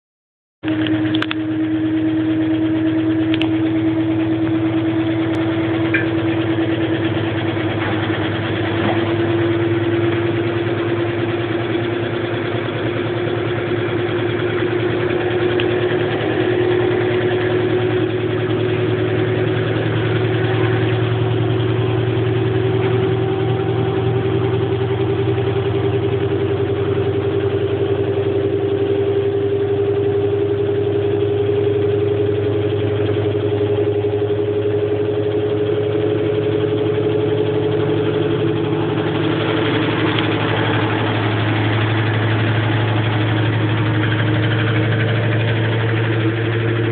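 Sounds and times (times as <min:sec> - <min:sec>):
rising whine: 0:00.6 - 0:46.9
washing machine spinning: 0:00.7 - 0:46.9.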